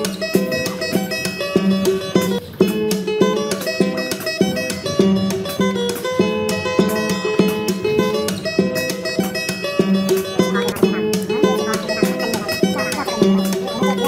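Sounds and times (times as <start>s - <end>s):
instrumental music with steady rhythm: 0.0s - 14.0s.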